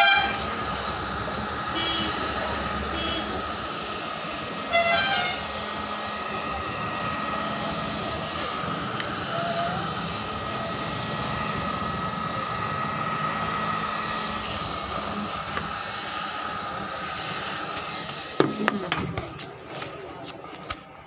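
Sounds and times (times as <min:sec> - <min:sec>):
heat gun whooshing hiss: 0:00.0 - 0:19.8
fan winding down: 0:00.0 - 0:21.0.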